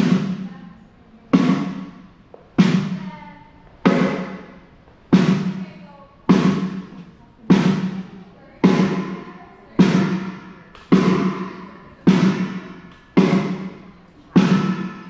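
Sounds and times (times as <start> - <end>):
snare drum hits: 0.0 - 0.6, 1.3 - 3.2, 3.8 - 15.0.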